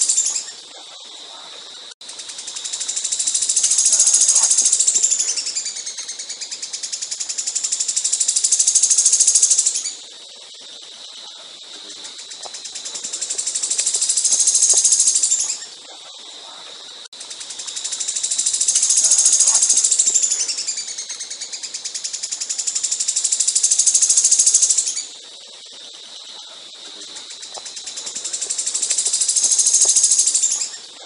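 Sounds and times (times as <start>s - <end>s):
caged songbird rapid trills: 0.0s - 1.2s, 2.0s - 16.2s, 17.2s - 31.0s.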